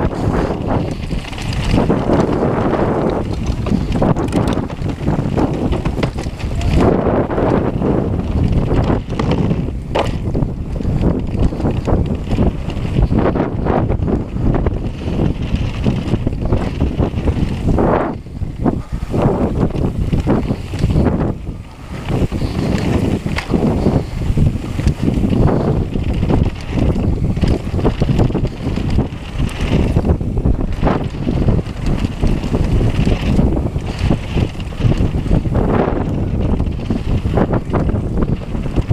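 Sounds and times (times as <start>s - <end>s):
bike rumbling and rattling on dirt: 0.0s - 38.9s
wind buffeting microphone: 0.0s - 38.9s.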